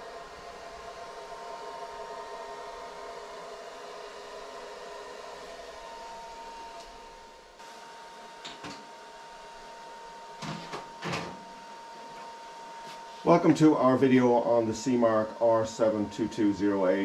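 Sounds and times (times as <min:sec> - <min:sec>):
cooling fans whirring: 0:00.0 - 0:17.0.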